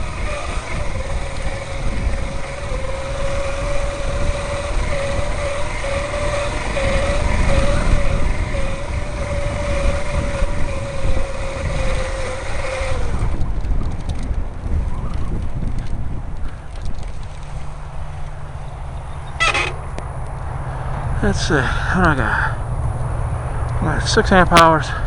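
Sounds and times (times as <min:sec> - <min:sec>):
electric bike motor whining: 0:00.0 - 0:23.8
wind on microphone: 0:00.0 - 0:24.0.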